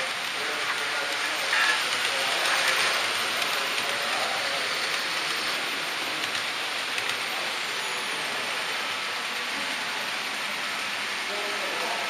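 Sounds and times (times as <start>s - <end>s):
model train wheels on rails: 0.0s - 12.0s.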